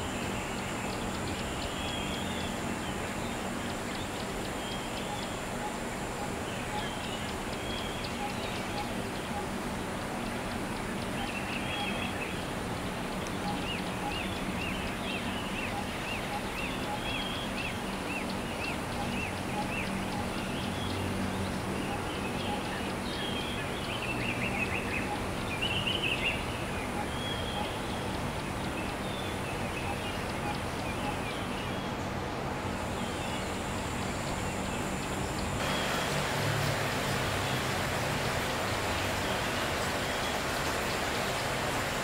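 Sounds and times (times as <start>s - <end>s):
low hum and hiss: 0.0s - 42.0s.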